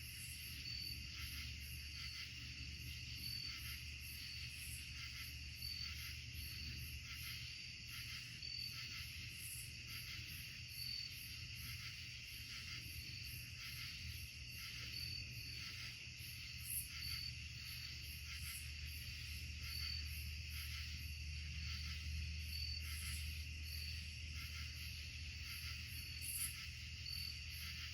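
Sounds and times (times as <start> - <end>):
crickets and insects trilling: 0.0 - 27.9.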